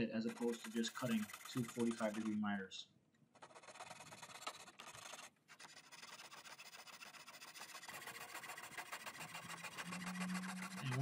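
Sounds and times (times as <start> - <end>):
coping saw rasping through wood: 0.2 - 2.4, 3.5 - 11.0.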